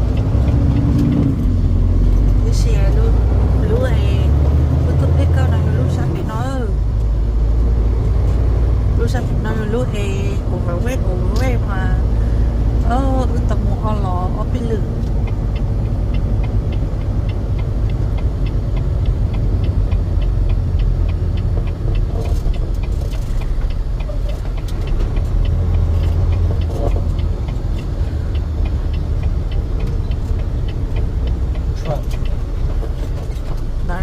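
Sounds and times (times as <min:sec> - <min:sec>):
steady ticking: 0:00.0 - 0:34.0
truck engine and road rumble: 0:00.0 - 0:34.0.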